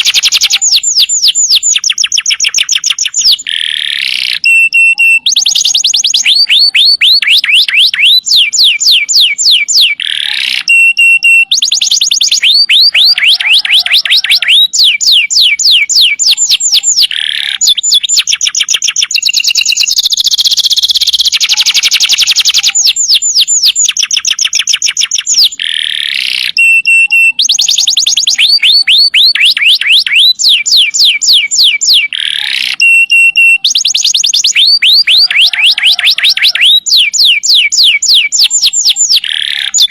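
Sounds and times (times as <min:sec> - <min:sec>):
canary singing in rapid trills: 0:00.0 - 0:39.9.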